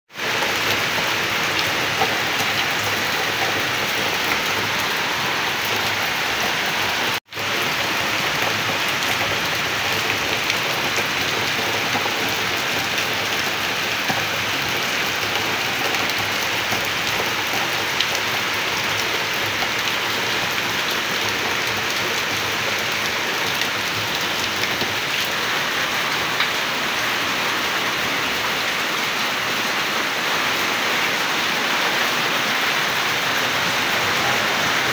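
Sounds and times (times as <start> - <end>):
heavy rain on metal roofs: 0.1 - 34.9.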